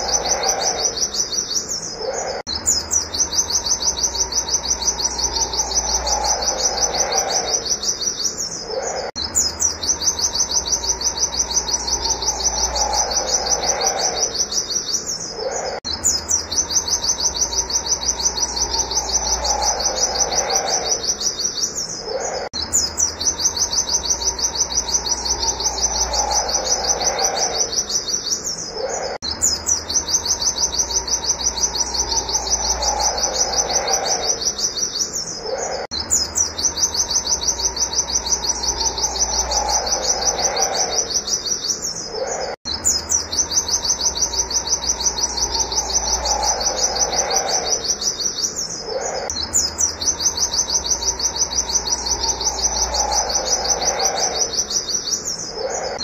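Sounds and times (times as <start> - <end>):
bird high chirps: 0.0 - 56.0.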